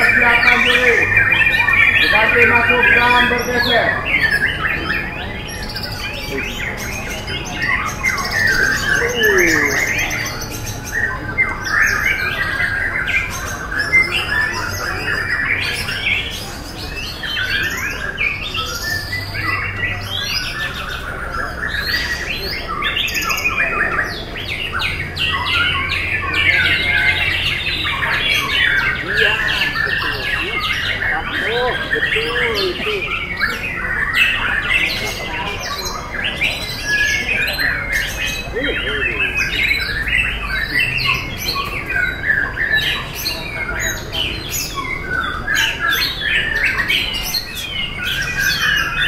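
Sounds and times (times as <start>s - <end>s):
birds whistling and trilling: 0.0s - 49.0s.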